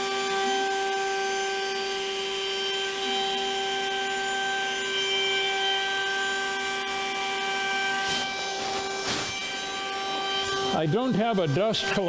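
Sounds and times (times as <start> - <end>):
router bit cutting wood: 0.0 - 12.0
router spindle whine: 0.0 - 12.0.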